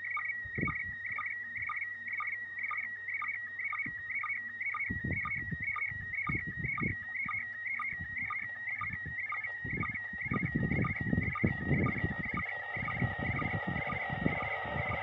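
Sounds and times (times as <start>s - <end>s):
low crackling noise: 0.0s - 15.0s
short low sync beeps: 0.0s - 15.0s
warbling signal tone: 0.0s - 15.0s.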